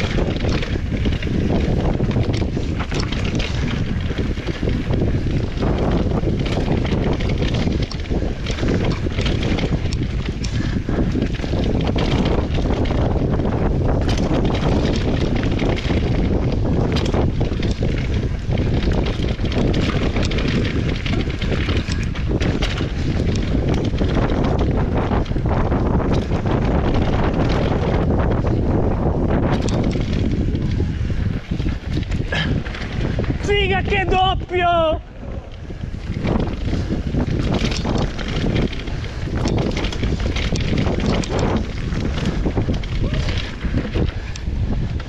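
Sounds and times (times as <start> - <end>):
bike clattering over rough ground: 0.0 - 45.0
tyre noise on dirt: 0.0 - 45.0
wind buffeting microphone: 0.0 - 45.0.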